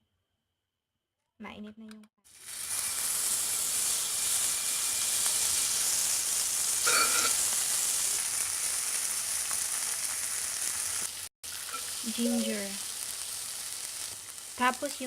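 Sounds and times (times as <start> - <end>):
food sizzling in a hot pan: 2.3 - 15.0.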